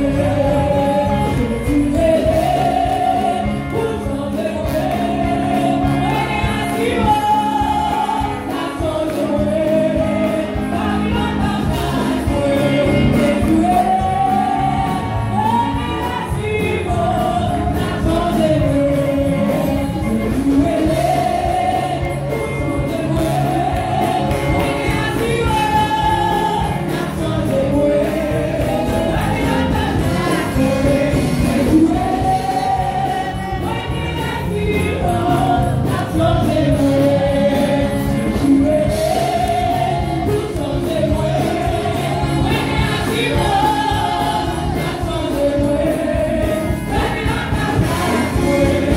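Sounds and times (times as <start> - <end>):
band with steady beat: 0.0 - 48.9
women singing gospel: 0.0 - 48.9.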